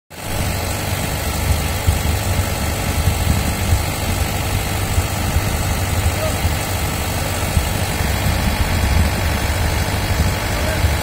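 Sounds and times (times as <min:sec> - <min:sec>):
heavy diesel engine rumbling: 0:00.1 - 0:11.0.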